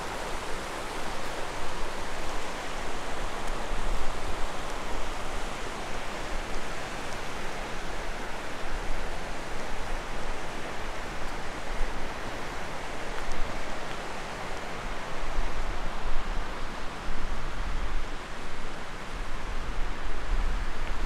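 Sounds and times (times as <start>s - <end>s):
river flowing over rocks: 0.0s - 21.0s.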